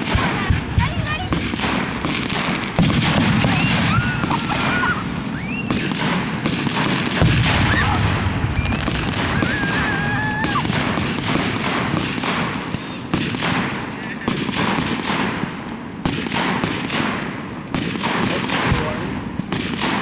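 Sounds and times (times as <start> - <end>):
fireworks booming and crackling: 0.0 - 20.0
high firework whistles: 0.0 - 20.0.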